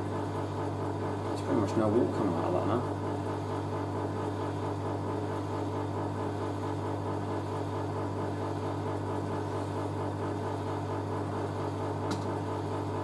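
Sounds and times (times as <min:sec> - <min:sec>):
drain pump electric hum: 0:00.0 - 0:13.0.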